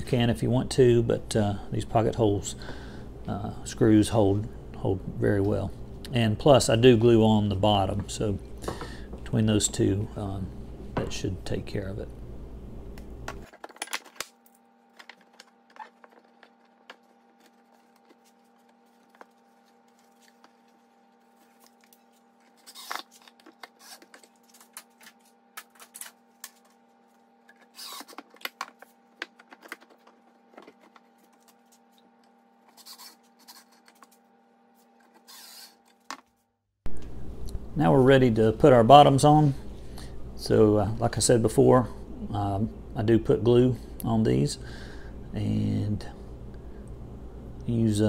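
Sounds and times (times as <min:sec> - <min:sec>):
steady low hum: 0:00.0 - 0:35.9, 0:36.9 - 0:48.0.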